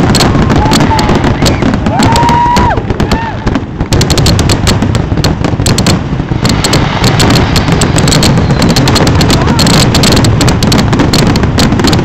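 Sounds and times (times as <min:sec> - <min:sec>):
continuous rumble: 0:00.0 - 0:12.0
firework whistling: 0:00.0 - 0:12.0
fireworks bursting and crackling: 0:00.0 - 0:12.0.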